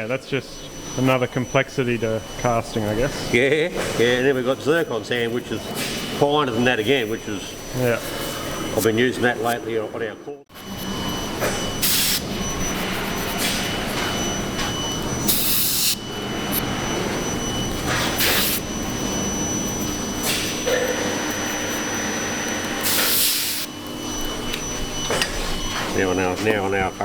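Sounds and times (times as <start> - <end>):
machinery hum: 0.0 - 27.0.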